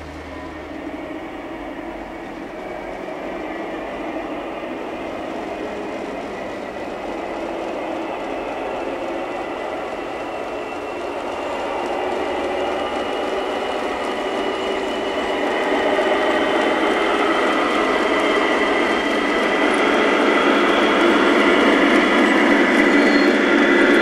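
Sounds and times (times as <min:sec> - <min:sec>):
model train running hum: 0:00.0 - 0:24.0.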